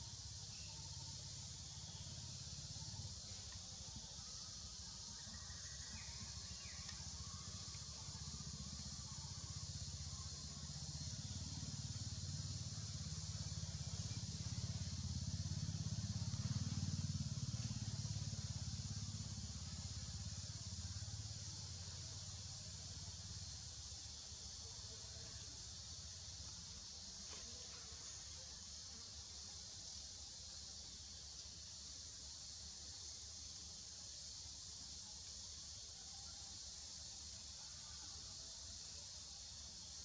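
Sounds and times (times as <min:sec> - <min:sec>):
steady high-pitched hiss: 0:00.0 - 0:40.0.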